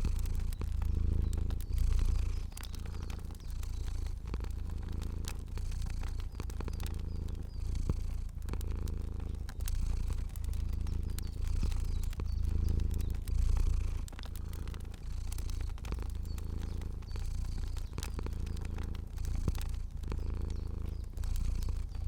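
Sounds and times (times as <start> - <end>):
cat purring: 0.0 - 22.0
fire popping and crackling: 0.0 - 22.0.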